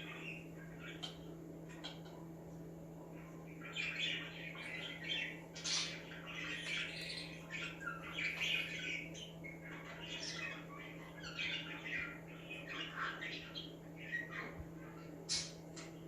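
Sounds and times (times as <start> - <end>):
budgies chattering and chirping: 0.0 - 16.0
steady low hum: 0.0 - 16.0.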